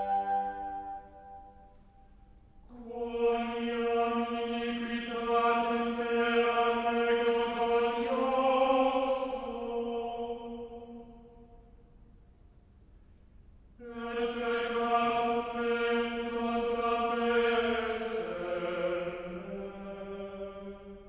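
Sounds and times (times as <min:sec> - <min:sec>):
ambient chant-like drone music: 0:00.0 - 0:11.8, 0:13.8 - 0:21.0.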